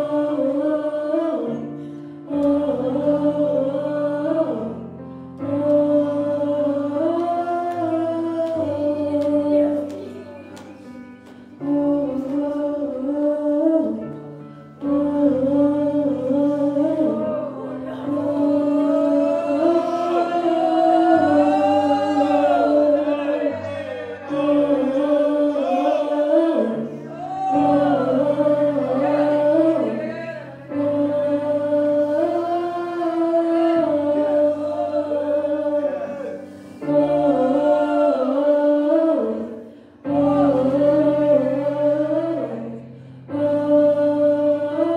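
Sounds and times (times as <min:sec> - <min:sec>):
congregation singing worship: 0:00.0 - 0:44.9.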